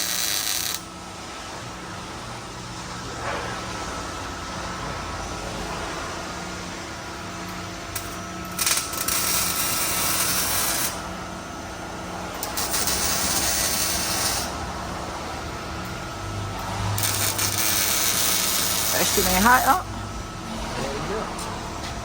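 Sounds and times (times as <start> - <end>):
steady low hum: 0.2 - 22.0.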